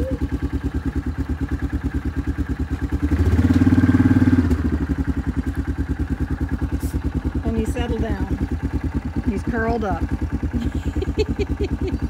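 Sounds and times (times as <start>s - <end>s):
quad bike engine idling and revving: 0.0s - 12.0s.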